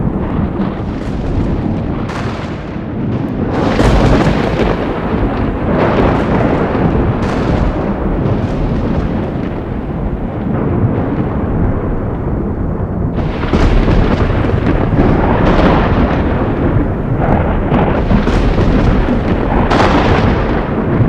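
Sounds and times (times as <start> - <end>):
thunder rumbling and cracking: 0.0 - 21.0.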